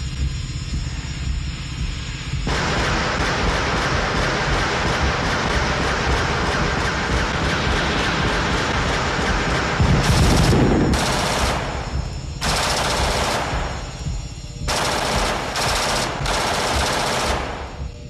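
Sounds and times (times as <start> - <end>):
automatic rifle fire: 2.5 - 13.9, 14.7 - 17.8.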